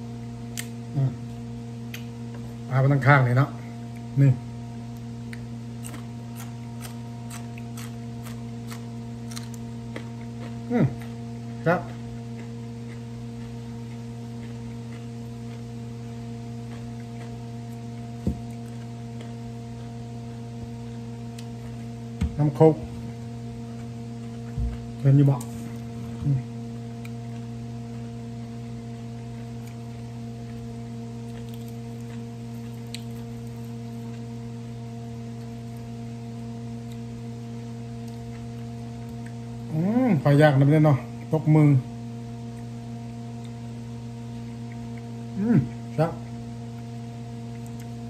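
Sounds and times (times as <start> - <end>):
electrical hum: 0.0 - 48.0.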